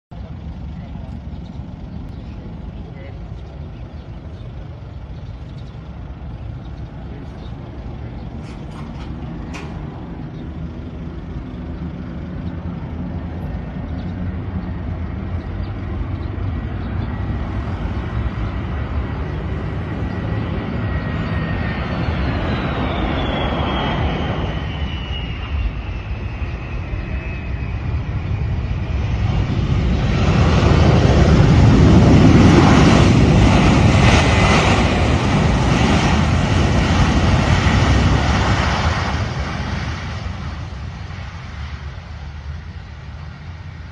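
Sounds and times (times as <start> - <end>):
high engine whine: 0.1 - 43.9
jet engines rumbling: 0.1 - 43.9.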